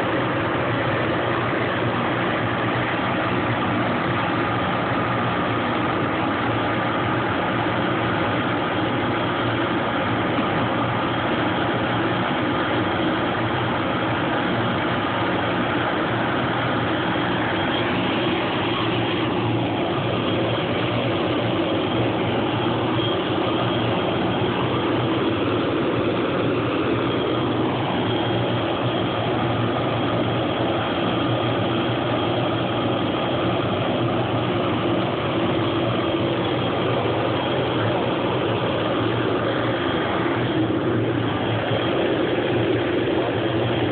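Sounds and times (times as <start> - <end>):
helicopter main rotor noise: 0.0 - 43.9
turbine engine whine: 0.0 - 43.9.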